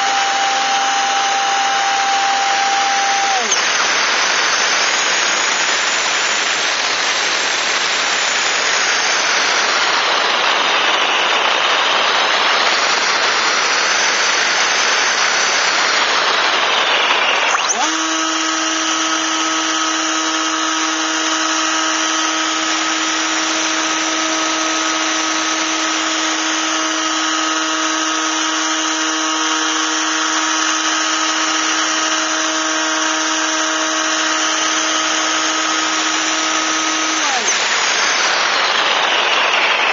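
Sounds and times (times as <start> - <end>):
model plane motor whine: 0.0 - 39.8.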